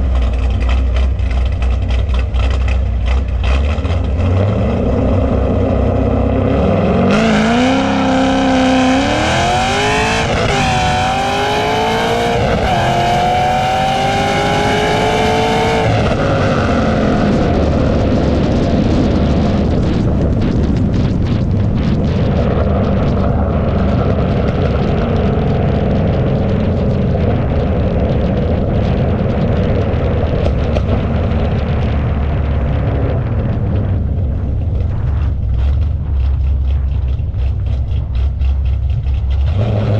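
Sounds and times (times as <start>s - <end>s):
drag racing car accelerating: 0.0s - 39.9s
low engine rumble: 0.0s - 39.9s.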